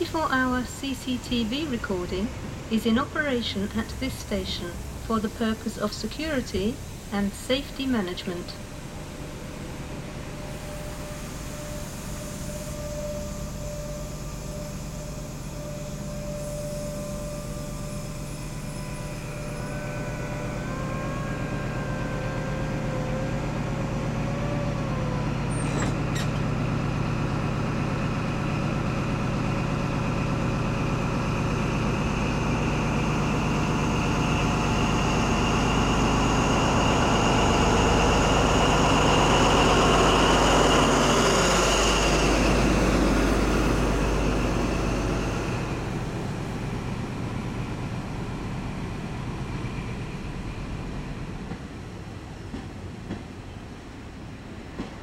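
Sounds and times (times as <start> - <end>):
diesel train engine whine: 0.0 - 55.0
train coaches rolling past: 0.0 - 55.0.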